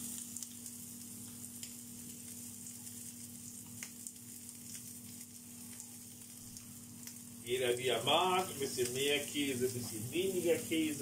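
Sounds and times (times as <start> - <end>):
low steady hum: 0.0 - 11.0
meat sizzling in hot oil: 0.0 - 11.0.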